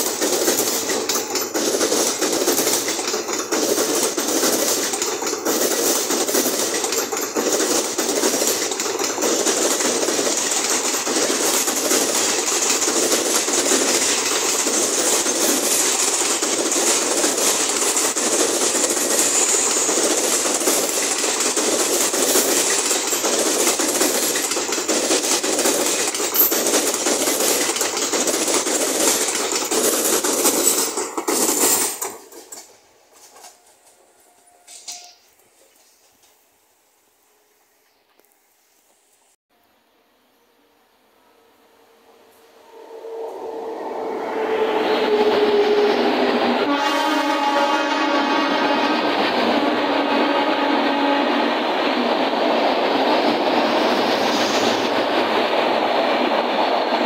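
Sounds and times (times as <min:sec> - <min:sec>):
train wheels clattering on rails: 0:00.0 - 0:36.4, 0:44.6 - 0:57.0.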